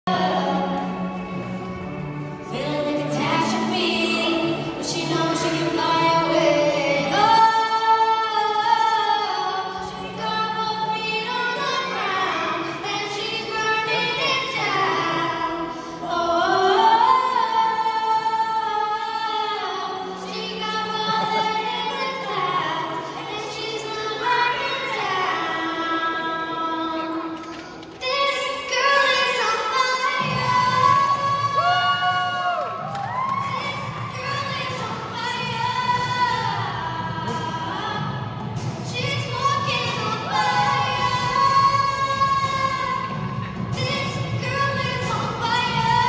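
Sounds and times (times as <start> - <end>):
girl singing into microphone: 2.4 - 46.0.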